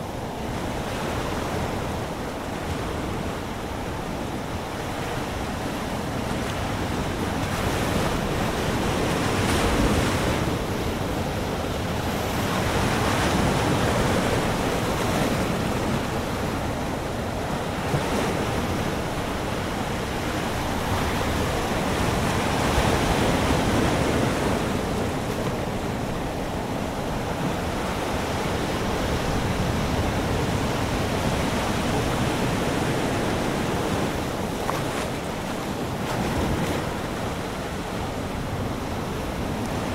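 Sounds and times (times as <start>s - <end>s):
ocean surf breaking on sand: 0.0s - 39.9s.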